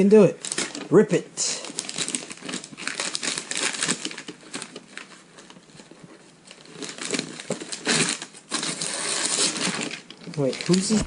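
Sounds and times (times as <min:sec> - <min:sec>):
wrapping paper crinkling and tearing: 0:00.3 - 0:11.0.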